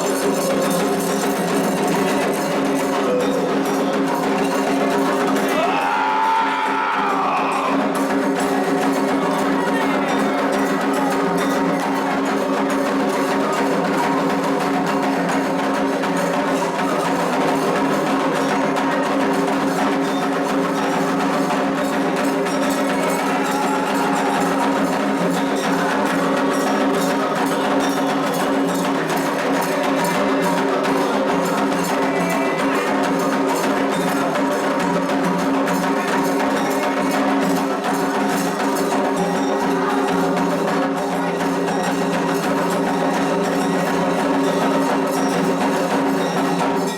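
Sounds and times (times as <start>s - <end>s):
hand drums: 0.0s - 46.9s.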